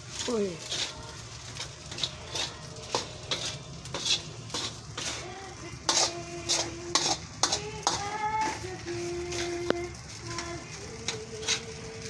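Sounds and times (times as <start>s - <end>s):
spatula scraping a frying pan: 0.0s - 12.0s.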